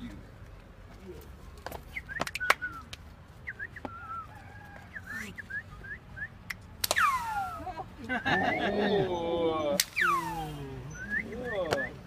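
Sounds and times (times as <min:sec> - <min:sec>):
bird chirping: 0:01.8 - 0:12.0.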